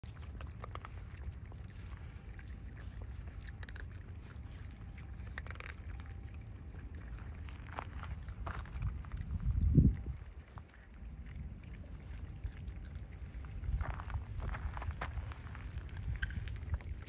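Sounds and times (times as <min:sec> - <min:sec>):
animals chewing: 0:00.0 - 0:17.0
low steady rumble: 0:00.0 - 0:17.0
paws shifting on gravel: 0:00.2 - 0:12.2, 0:12.8 - 0:17.0.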